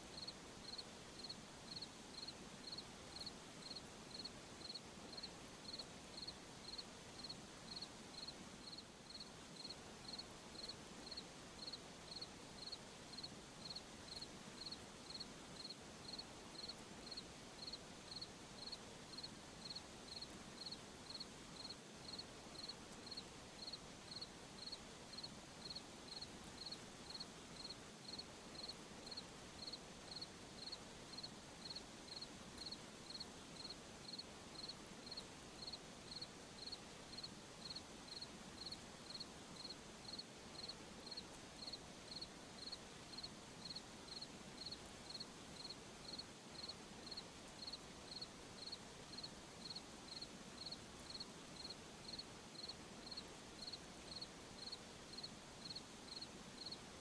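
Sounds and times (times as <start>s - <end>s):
night ambience hiss: 0.0s - 57.0s
cricket chirping: 0.1s - 56.8s.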